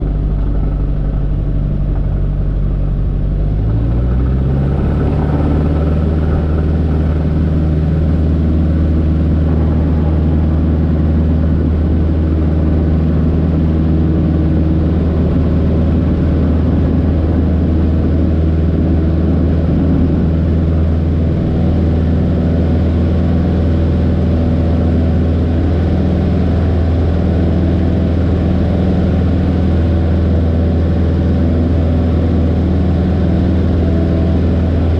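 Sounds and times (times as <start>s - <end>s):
light aircraft engine: 0.0s - 34.9s.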